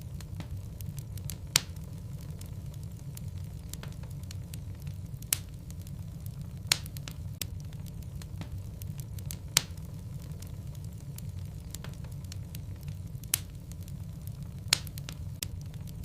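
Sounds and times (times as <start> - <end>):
burning wood popping: 0.0 - 16.0
fire crackling: 0.0 - 16.0
fire rumbling: 0.0 - 16.0.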